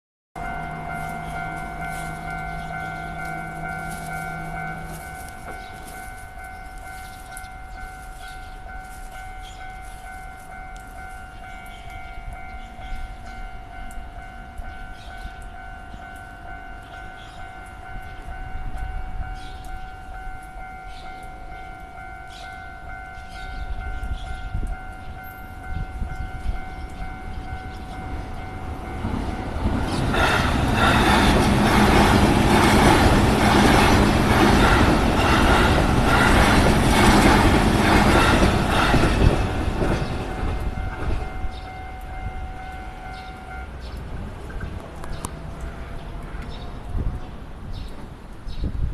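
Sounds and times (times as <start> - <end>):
level-crossing warning bell ringing: 0.4 - 47.1
train passing: 0.4 - 48.9.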